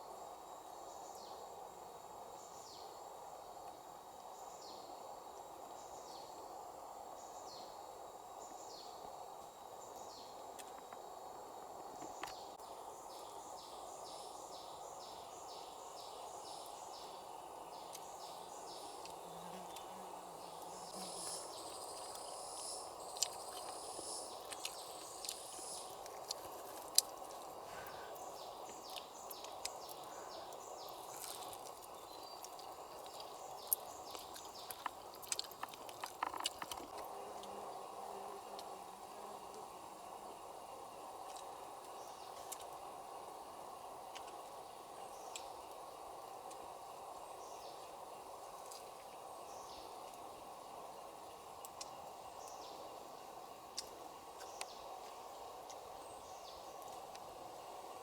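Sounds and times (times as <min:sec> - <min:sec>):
insects humming: 0:00.0 - 0:58.0
steady hiss: 0:00.0 - 0:58.0.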